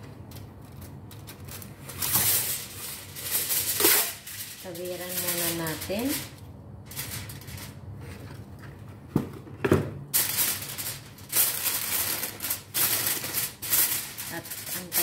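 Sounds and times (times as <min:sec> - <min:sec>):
aluminium foil crinkling: 0:00.0 - 0:08.4, 0:10.1 - 0:15.0.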